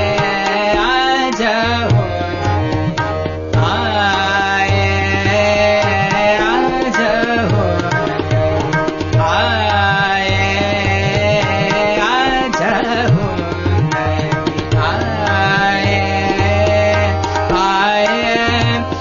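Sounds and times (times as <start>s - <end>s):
man singing classical vocals: 0.0s - 19.0s
tabla drumming: 0.0s - 19.0s.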